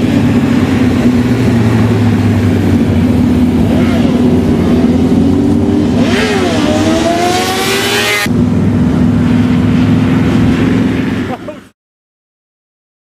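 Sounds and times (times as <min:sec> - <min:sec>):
motorcycle engine revving: 0:00.0 - 0:11.5
motorcycle engines running: 0:00.0 - 0:11.7.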